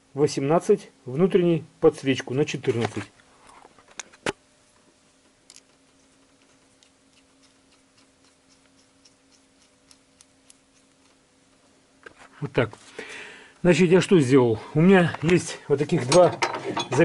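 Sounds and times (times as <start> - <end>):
weak steady hum: 0.0 - 16.2.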